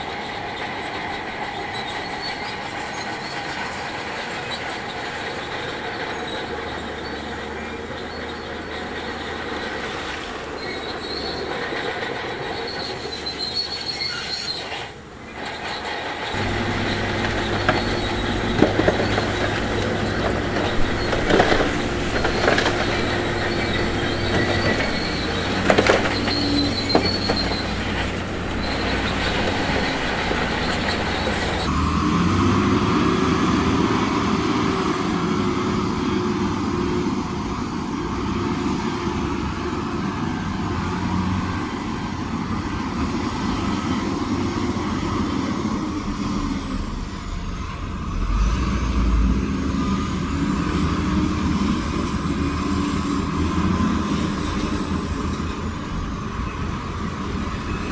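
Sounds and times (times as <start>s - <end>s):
diesel engine running: 0.0s - 14.0s, 15.0s - 57.9s
steel squealing and clanking: 0.0s - 57.9s.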